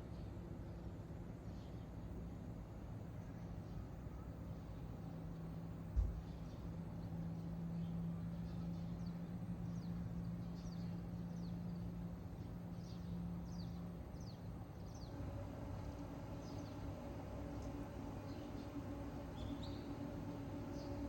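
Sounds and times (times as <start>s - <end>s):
low steady hum: 0.0s - 21.0s
small birds chirping: 3.1s - 15.2s, 15.8s - 21.0s.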